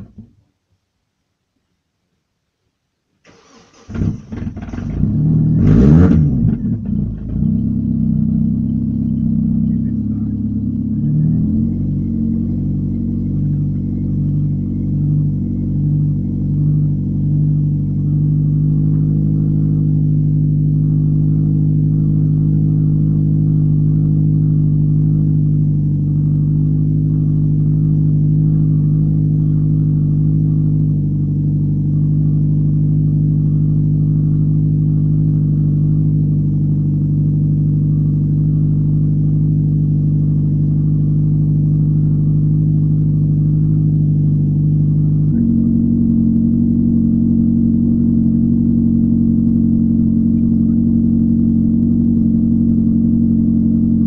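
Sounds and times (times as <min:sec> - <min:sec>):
car engine idling: 0:00.0 - 0:00.4, 0:03.2 - 0:54.0.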